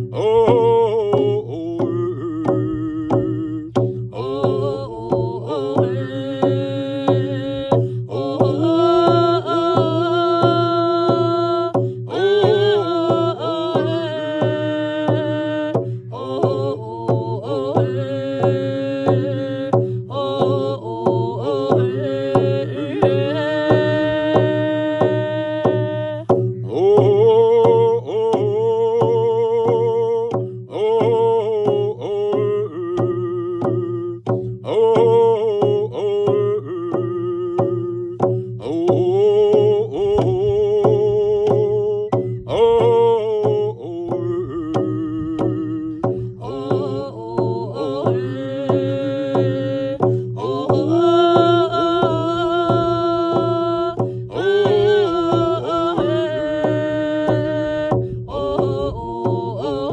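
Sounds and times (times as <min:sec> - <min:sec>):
frame drum beat: 0:00.0 - 0:59.9
people singing with vibrato: 0:00.0 - 0:59.9.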